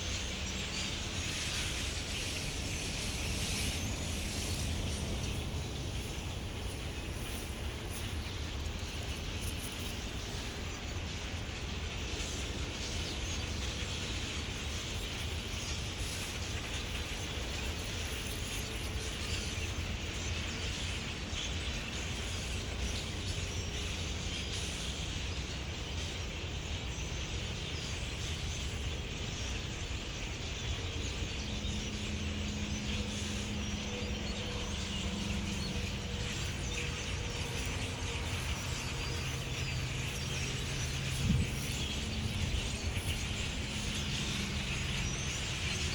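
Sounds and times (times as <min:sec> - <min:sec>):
flock of blackbirds chattering: 0:00.0 - 0:45.9.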